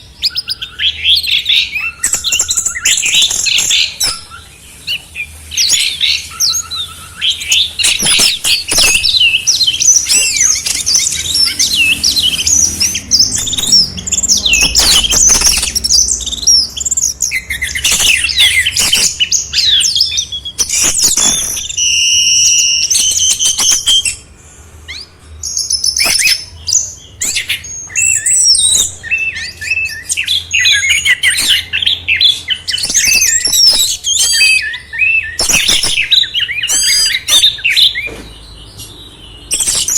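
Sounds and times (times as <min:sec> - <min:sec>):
dense birdsong: 0:00.0 - 0:39.9.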